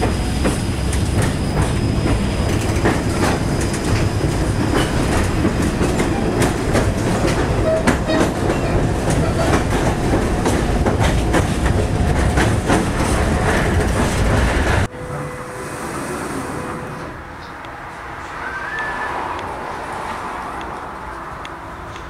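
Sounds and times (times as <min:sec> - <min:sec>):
tram wheels rumbling on rails: 0:00.0 - 0:22.0.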